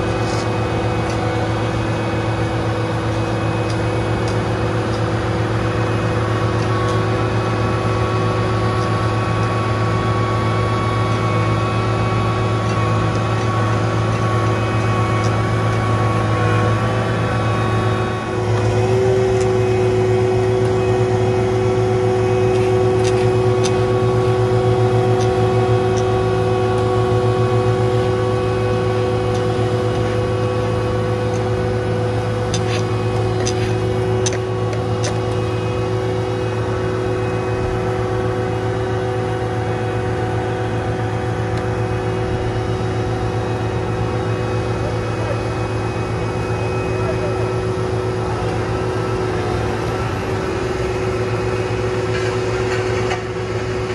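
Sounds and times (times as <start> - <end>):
paving machinery engine drone: 0.0 - 53.9
steady machine whine: 0.0 - 53.9.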